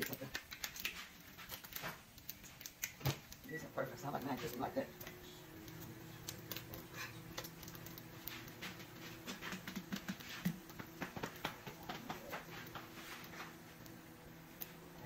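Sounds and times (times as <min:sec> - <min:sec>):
bacon crackling on a griddle: 0:00.0 - 0:15.0.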